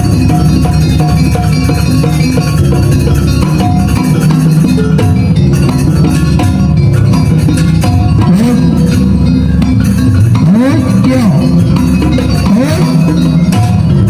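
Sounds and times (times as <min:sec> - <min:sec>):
drums: 0:00.0 - 0:14.0
tuned metal percussion: 0:00.0 - 0:14.0.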